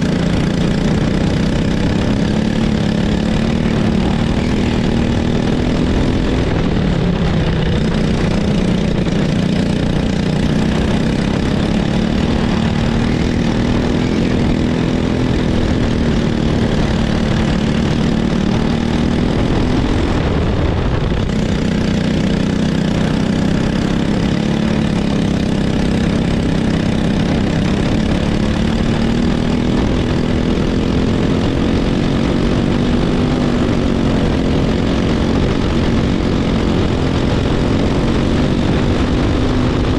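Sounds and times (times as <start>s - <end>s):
kart engine at high revs: 0.0s - 39.9s.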